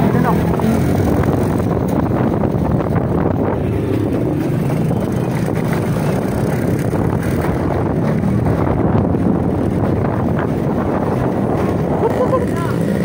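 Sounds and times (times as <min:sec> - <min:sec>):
vehicle engine rumble: 0:00.0 - 0:13.0
wind buffeting microphone: 0:00.0 - 0:13.0.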